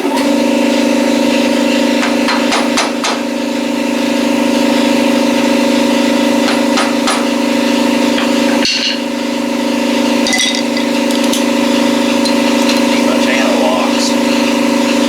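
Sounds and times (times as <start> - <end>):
motor running steadily: 0.0 - 15.0.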